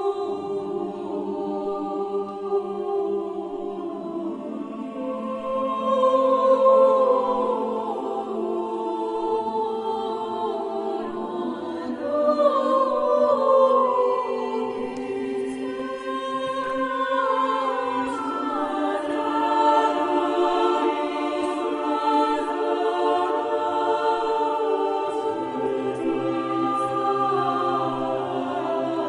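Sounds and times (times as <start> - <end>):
choir singing unaccompanied: 0.0 - 29.0.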